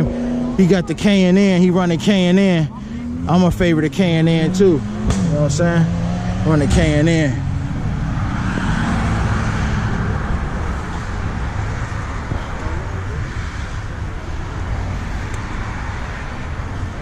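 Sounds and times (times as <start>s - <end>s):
car engines idling: 0.0s - 17.0s.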